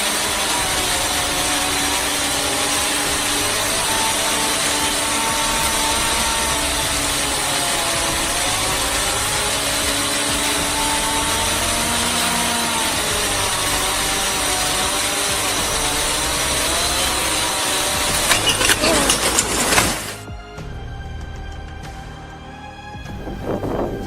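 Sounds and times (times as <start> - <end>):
loud machinery noise: 0.0 - 20.3.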